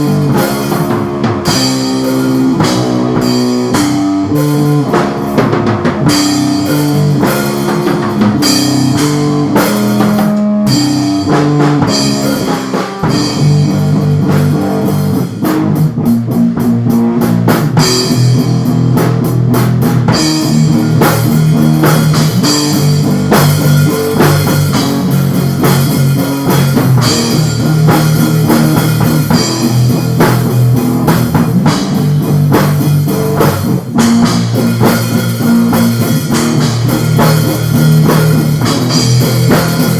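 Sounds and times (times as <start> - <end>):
bass guitar: 0.0 - 39.9
drum kit: 0.0 - 39.9
electric guitar: 0.0 - 39.9
rock band playing: 0.0 - 39.9.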